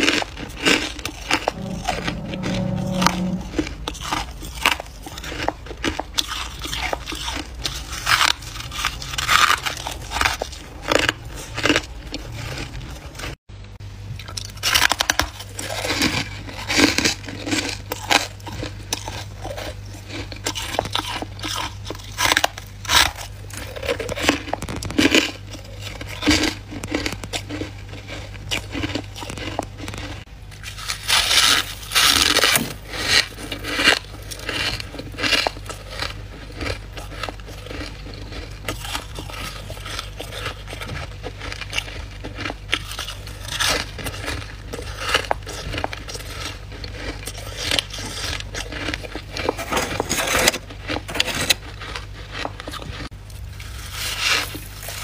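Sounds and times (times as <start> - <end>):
frost being chewed with crunches: 0.0 - 13.4, 14.1 - 55.0.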